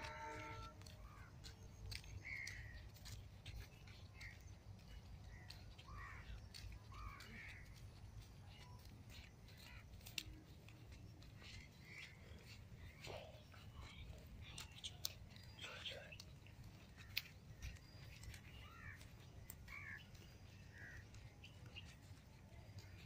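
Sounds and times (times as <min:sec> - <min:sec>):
harsh bird calls: 0:00.0 - 0:23.0.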